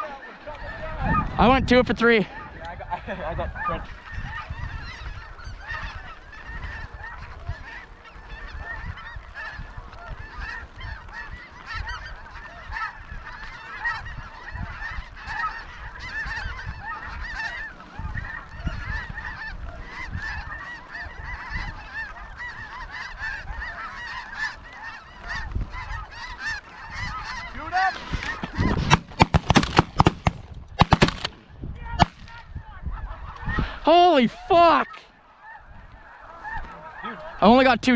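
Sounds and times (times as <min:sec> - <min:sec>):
snow geese honking: 0:00.0 - 0:01.3, 0:02.1 - 0:31.4, 0:32.0 - 0:37.9.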